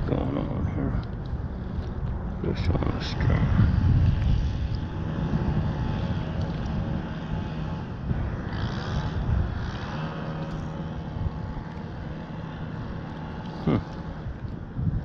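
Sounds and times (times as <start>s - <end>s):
low steady hum: 0.0s - 15.0s
wind rumble on microphone: 0.0s - 15.0s.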